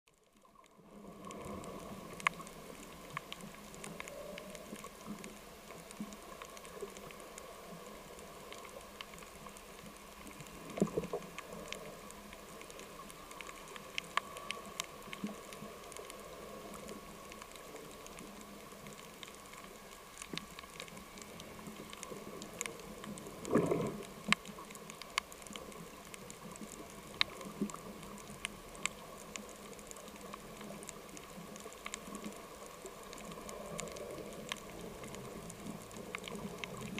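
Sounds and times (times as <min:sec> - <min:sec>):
sharp clicks and crackles: 0:00.1 - 0:36.9
underwater hiss: 0:00.8 - 0:36.9.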